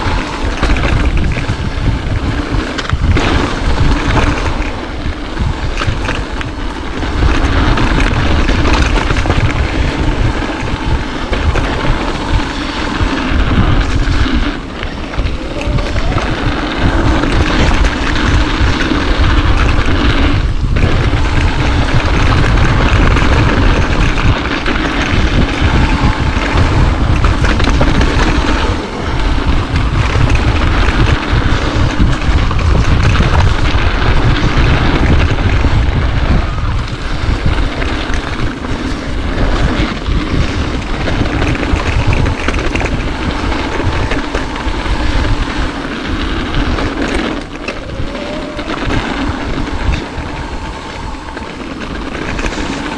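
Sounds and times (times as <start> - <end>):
mountain bike rumbling on dirt: 0.0 - 52.9
wind on microphone: 0.0 - 52.9.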